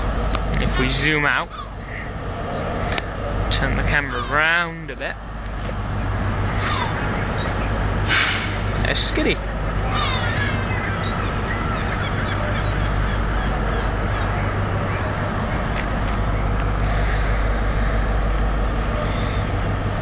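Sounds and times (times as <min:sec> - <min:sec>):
idling diesel trains hum: 0:00.0 - 0:20.0.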